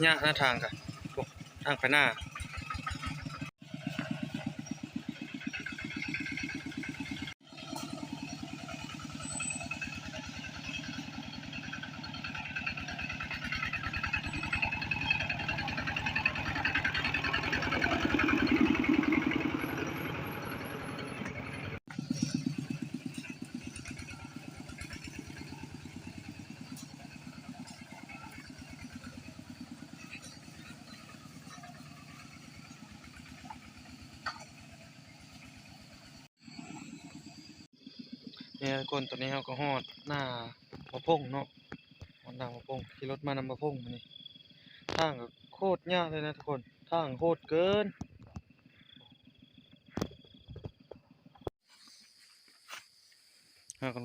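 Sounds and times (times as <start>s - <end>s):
small motorcycle engine running: 0.0s - 51.6s.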